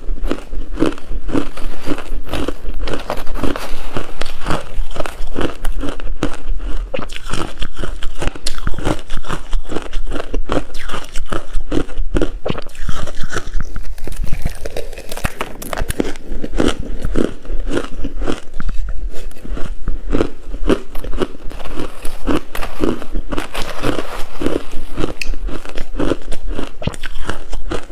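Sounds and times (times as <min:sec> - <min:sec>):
ice being chewed: 0:00.0 - 0:27.9.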